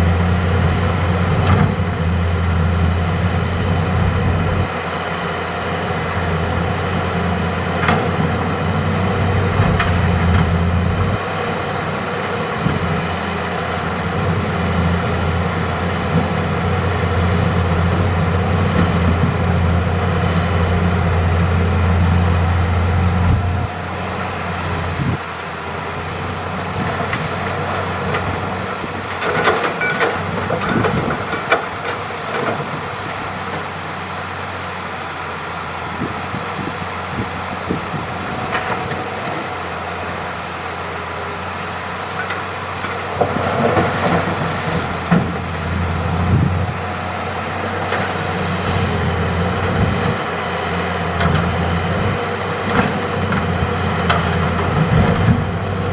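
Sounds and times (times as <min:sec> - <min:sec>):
excavator diesel engine under load: 0:00.0 - 0:55.9.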